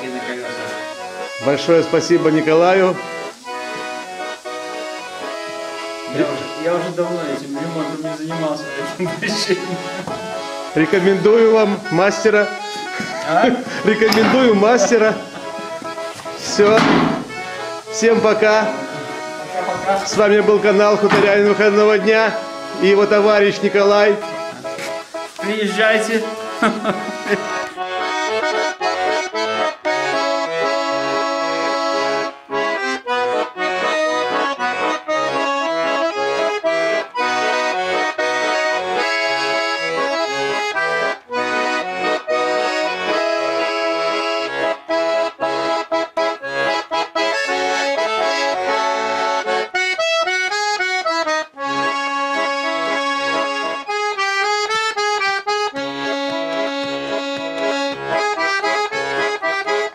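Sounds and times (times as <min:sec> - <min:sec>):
button accordion playing: 0:00.0 - 0:59.9.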